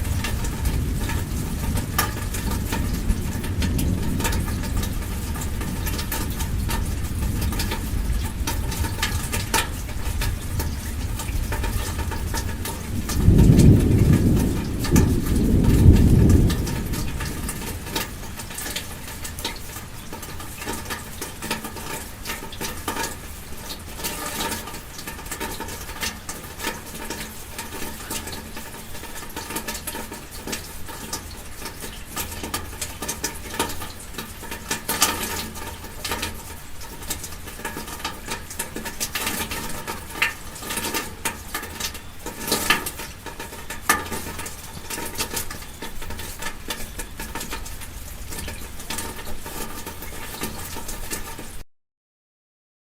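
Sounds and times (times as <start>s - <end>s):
rain pattering on a car: 0.0s - 51.6s.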